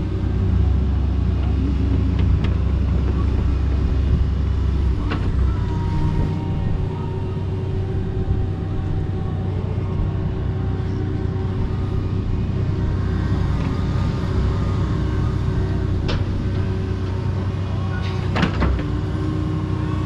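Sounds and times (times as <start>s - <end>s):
excavator engine hum: 0.0s - 20.0s.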